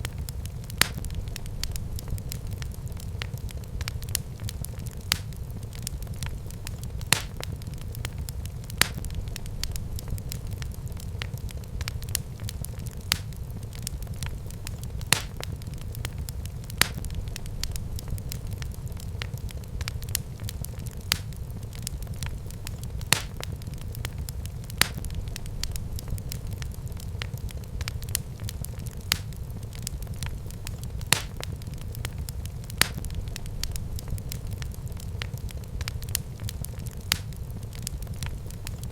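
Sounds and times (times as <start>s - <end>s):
fire burning in a fireplace: 0.0s - 38.9s
fire crackles and pops: 0.0s - 38.9s.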